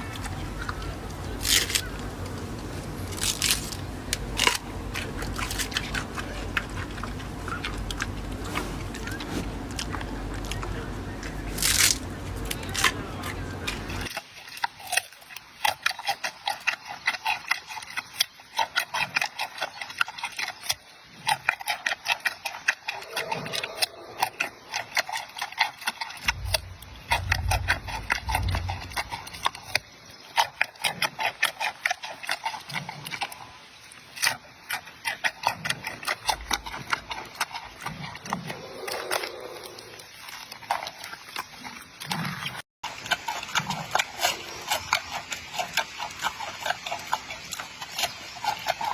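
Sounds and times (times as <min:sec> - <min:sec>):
panda chewing bamboo: 0:00.0 - 0:48.9.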